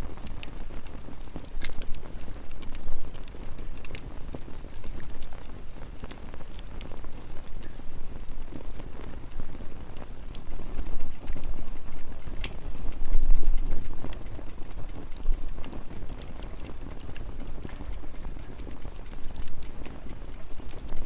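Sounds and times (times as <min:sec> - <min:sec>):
low steady rumble: 0:00.0 - 0:21.0
wood fire crackling and popping: 0:00.0 - 0:21.0.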